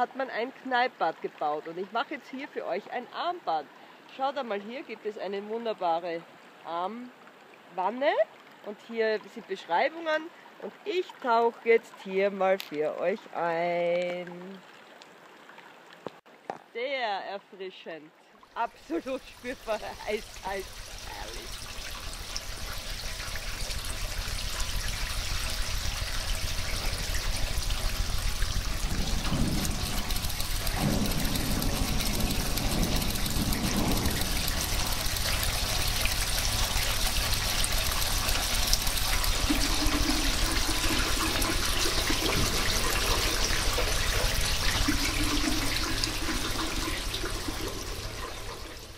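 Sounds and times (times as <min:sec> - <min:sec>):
rushing water: 0:00.0 - 0:48.9.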